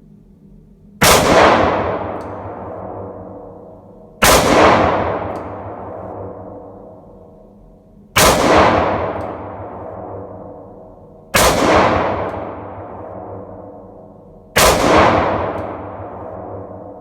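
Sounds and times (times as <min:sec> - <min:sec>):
revolver gunshots with echo: 0:01.0 - 0:07.3, 0:08.1 - 0:17.0.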